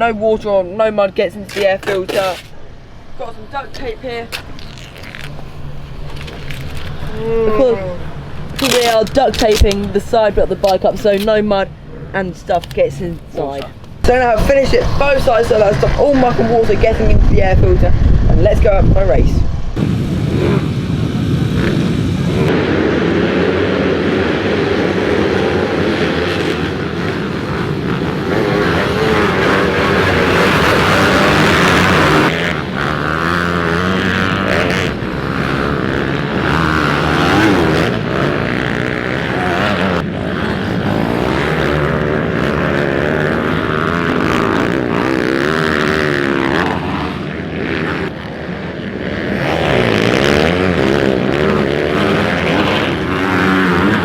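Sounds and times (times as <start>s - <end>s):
pit bike engines revving: 0.0s - 54.0s.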